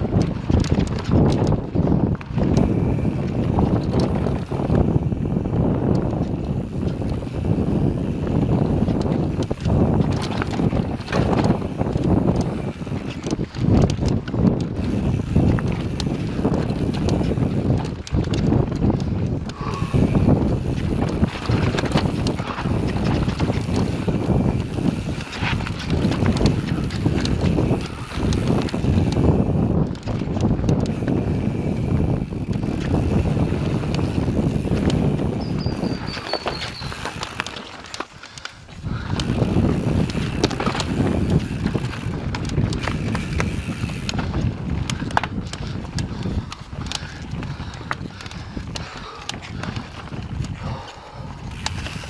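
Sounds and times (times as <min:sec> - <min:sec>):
bike rattling over bumps: 0:00.0 - 0:52.0
tyres rumbling over dirt: 0:00.3 - 0:48.0.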